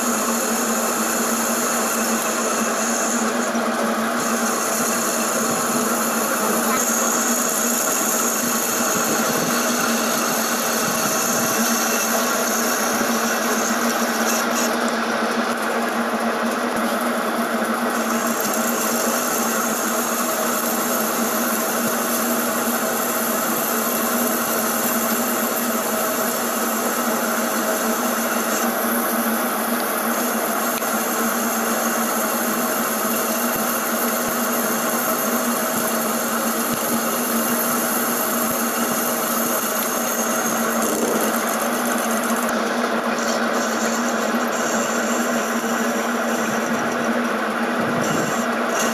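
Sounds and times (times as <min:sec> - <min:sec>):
cutting tool cutting metal: 0:00.0 - 0:48.9
metal lathe humming: 0:00.0 - 0:48.9.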